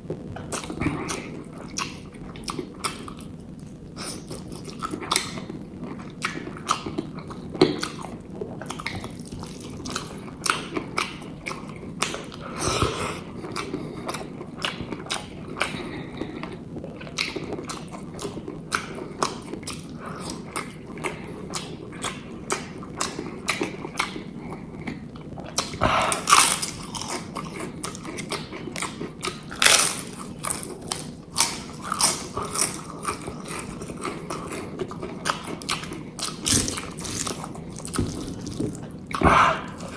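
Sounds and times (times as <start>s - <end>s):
person chewing food: 0.4s - 39.9s.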